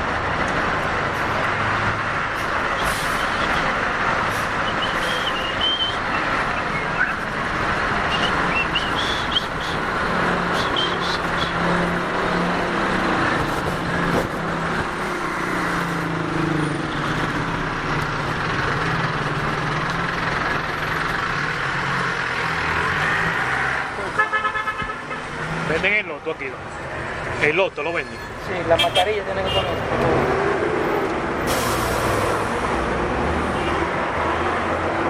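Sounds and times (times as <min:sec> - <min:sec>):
vehicle engines droning: 0:00.0 - 0:35.0.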